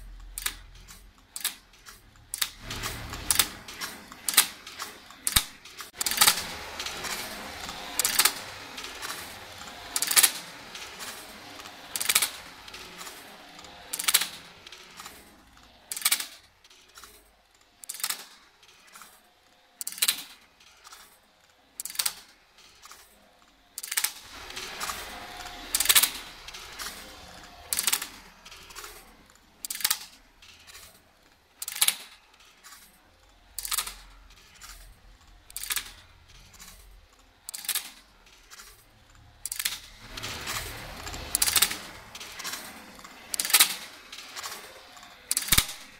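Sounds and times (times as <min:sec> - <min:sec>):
machine clicks and rattles: 0:00.0 - 0:45.9
metallic machine clack: 0:00.0 - 0:45.9.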